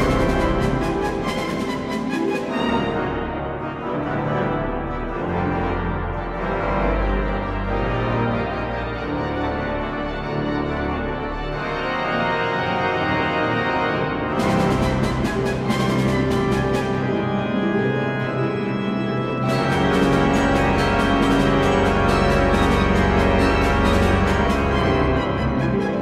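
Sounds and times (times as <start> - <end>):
pipe organ chords: 0.0 - 26.0.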